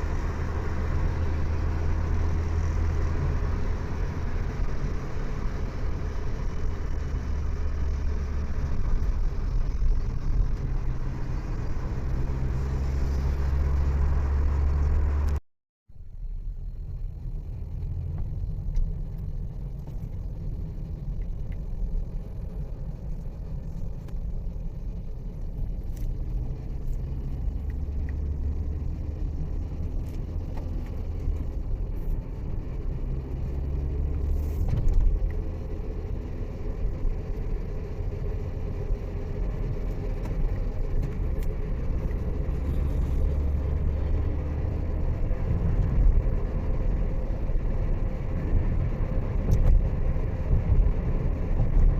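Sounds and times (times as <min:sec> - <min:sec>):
vehicle engine and tyre noise: 0:00.0 - 0:51.9.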